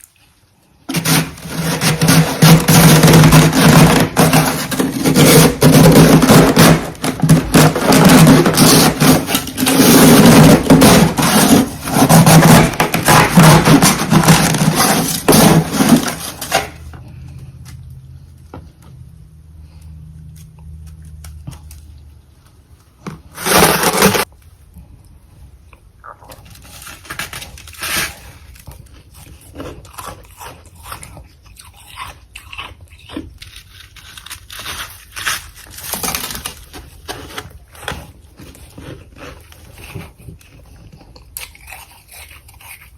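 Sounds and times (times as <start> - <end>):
freezer frost crunching and scraping: 0.0 - 17.6, 23.0 - 24.4, 26.3 - 42.9.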